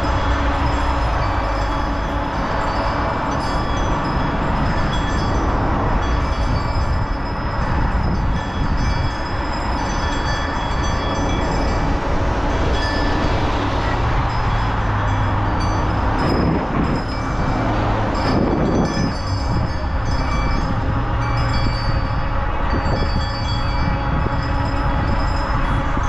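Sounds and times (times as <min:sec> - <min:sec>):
rolling rumble: 0:00.0 - 0:26.0
wind rushing: 0:00.0 - 0:26.0.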